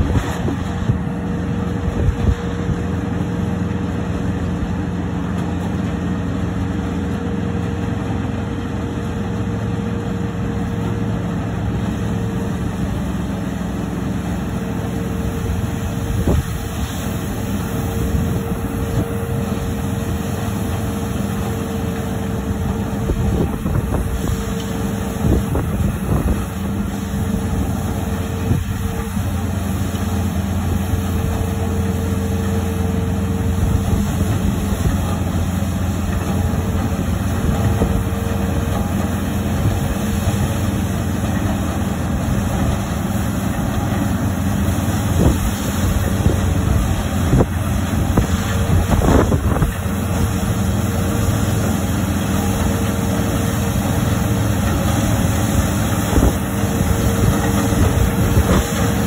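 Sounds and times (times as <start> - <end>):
combine harvester running: 0.0 - 59.0
steady machine whine: 0.0 - 59.0.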